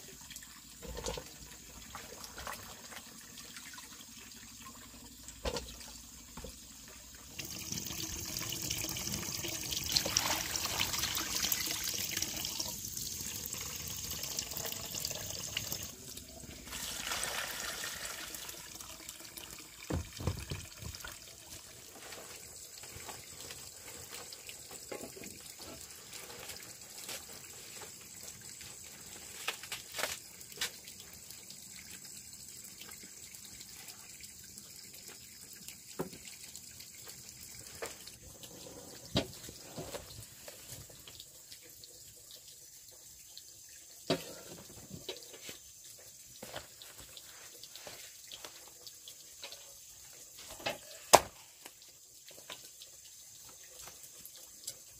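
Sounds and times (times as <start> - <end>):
running water: 0.0 - 54.9.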